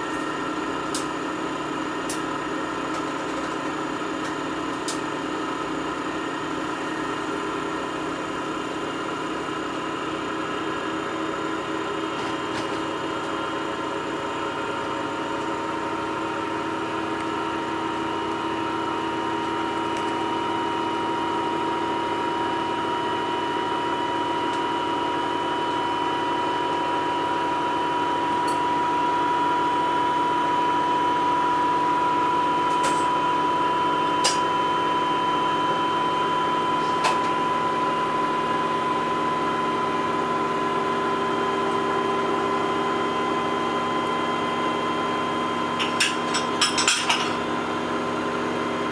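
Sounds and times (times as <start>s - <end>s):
washing machine motor whine: 0.0s - 48.9s.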